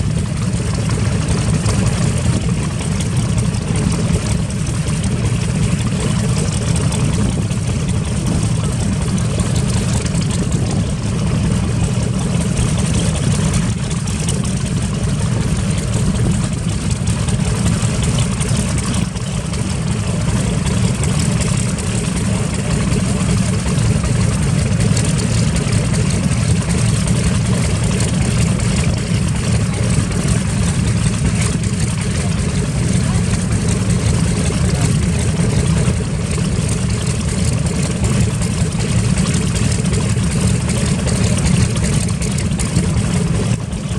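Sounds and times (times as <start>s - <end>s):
radial piston engines idling: 0.0s - 43.9s.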